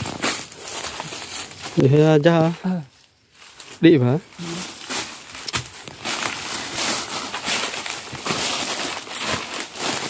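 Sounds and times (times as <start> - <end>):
footsteps crunching dry leaves: 0.0 - 10.0.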